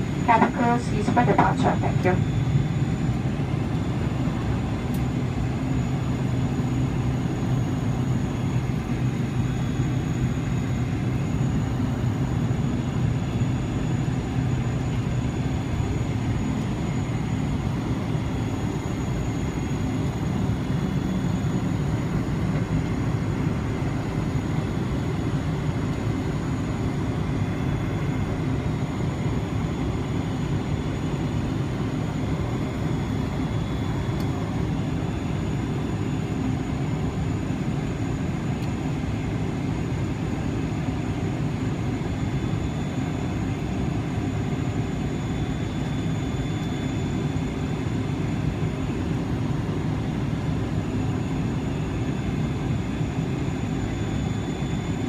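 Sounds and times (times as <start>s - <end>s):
faint high-pitched engine whines: 0.0s - 55.0s
low aircraft cabin hum: 0.0s - 55.0s.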